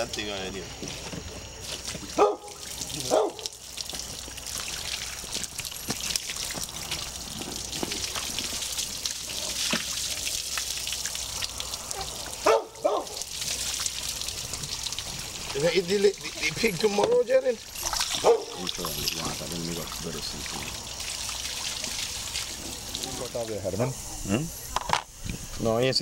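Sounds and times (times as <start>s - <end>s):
hose spraying water: 0.0s - 26.0s.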